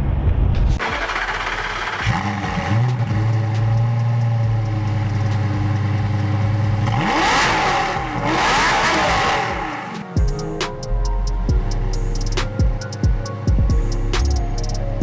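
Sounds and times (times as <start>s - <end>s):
sports car engine idling and revving: 0.8s - 15.0s.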